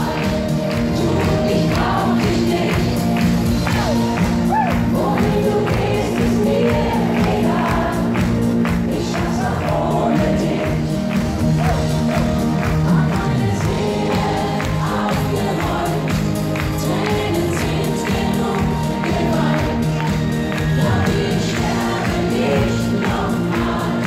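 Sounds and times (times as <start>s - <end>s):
drum beat: 0.0s - 24.0s
person singing with backing choir: 0.0s - 24.0s.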